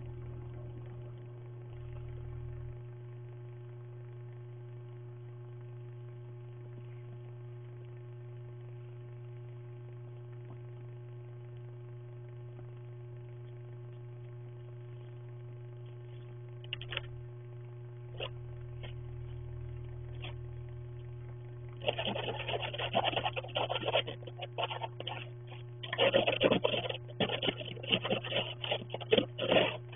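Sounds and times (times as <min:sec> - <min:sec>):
steady electrical hum: 0:00.0 - 0:29.9.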